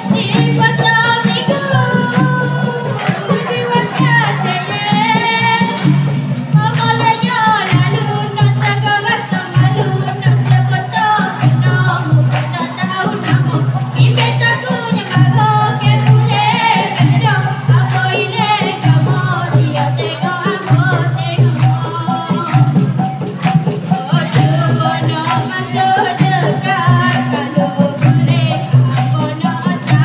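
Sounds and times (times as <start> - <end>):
girl singing through microphone: 0.0 - 22.9, 24.0 - 30.0
percussion beat: 0.0 - 30.0
tambourine-like rattles: 0.0 - 30.0.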